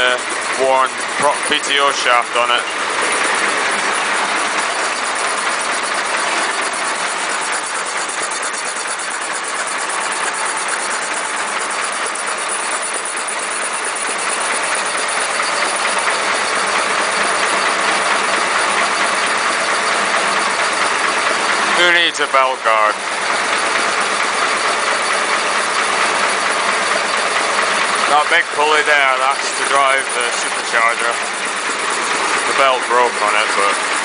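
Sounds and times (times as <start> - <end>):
diesel engine idling slowly: 0.0 - 34.0.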